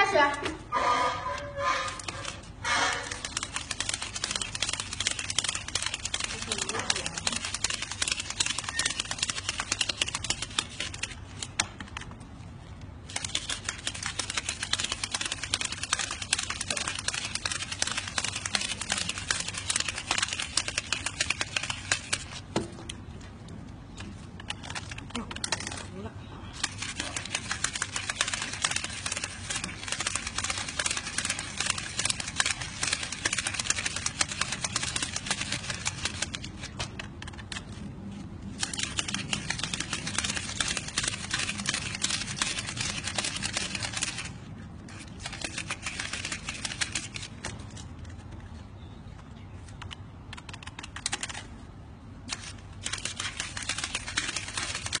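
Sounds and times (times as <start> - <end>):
banknotes being counted: 1.6 - 12.2, 13.0 - 22.6, 24.0 - 26.0, 26.6 - 37.8, 38.5 - 47.9, 50.3 - 51.5, 52.2 - 55.0.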